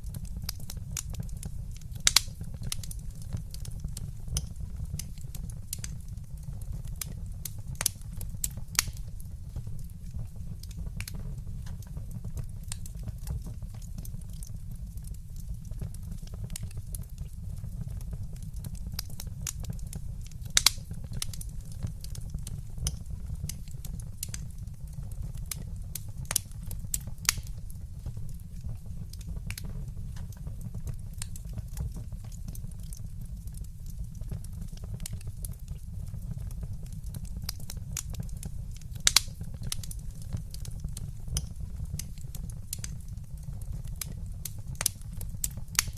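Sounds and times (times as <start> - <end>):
low rumble of flames: 0.0 - 45.9
wood fire crackling: 0.0 - 45.9
sharp pops and snaps: 0.1 - 6.0, 7.0 - 33.0, 34.4 - 45.9.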